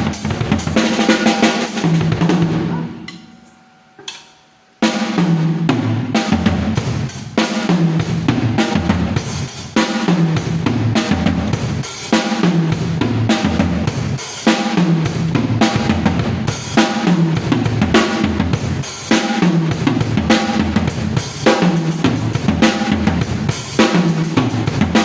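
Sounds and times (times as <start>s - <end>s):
drum kit groove: 0.0s - 25.0s.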